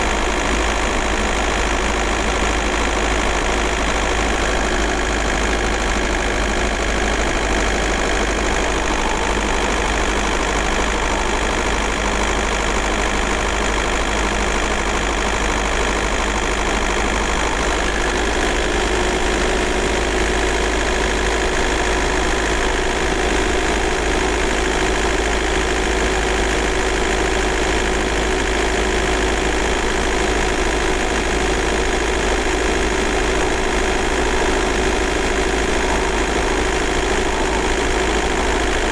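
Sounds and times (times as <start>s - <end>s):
diesel engine clattering: 0.0s - 38.9s.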